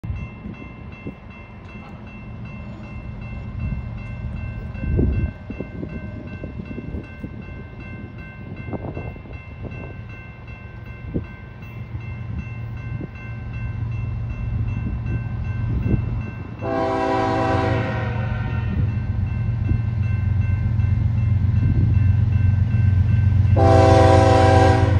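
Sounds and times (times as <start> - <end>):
crossing warning bell ringing: 0.0 - 24.9.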